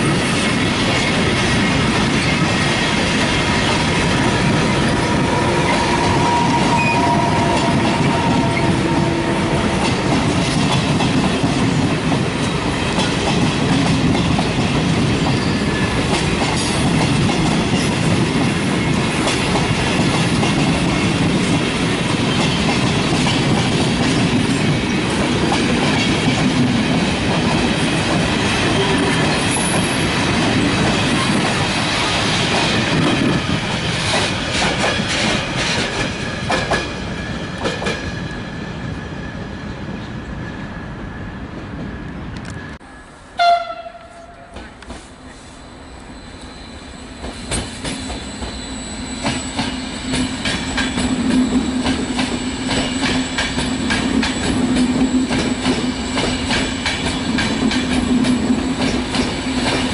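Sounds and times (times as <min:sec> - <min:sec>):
train wheels clickety-clack on rails: 0:00.0 - 0:40.2, 0:43.4 - 0:45.5, 0:47.1 - 0:59.9.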